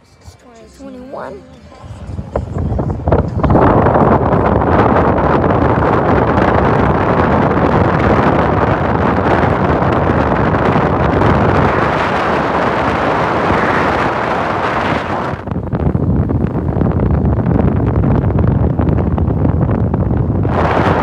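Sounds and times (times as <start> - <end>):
car road noise: 0.0 - 21.0
wind buffeting a microphone: 1.1 - 21.0.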